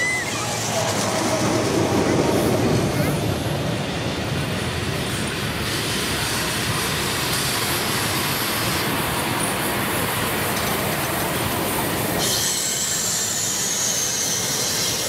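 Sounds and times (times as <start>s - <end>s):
steam locomotive rolling past: 0.0s - 15.0s.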